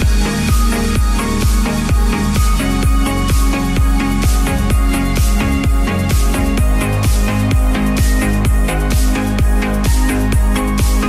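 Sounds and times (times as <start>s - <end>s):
electronic dance music: 0.0s - 11.0s
heavy bass beat: 0.0s - 11.0s.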